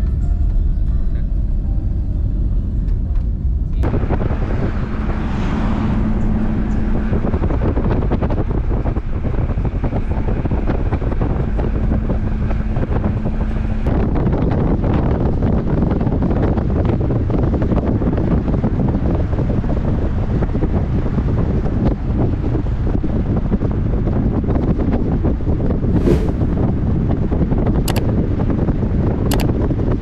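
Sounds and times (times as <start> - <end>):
car engine and tyres rumbling: 0.0 - 30.0
wind buffeting microphone: 2.3 - 30.0.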